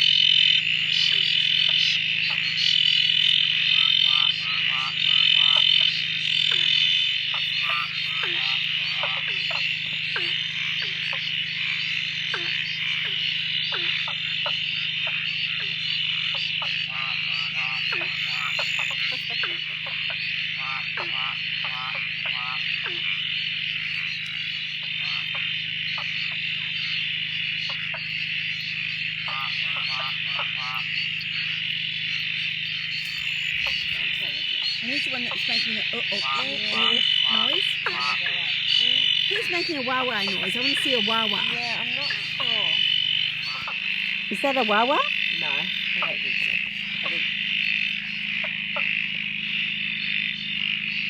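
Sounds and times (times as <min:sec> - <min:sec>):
frog chorus high-pitched calling: 0:00.0 - 0:51.0
frogs giving lower falling calls: 0:00.0 - 0:51.0.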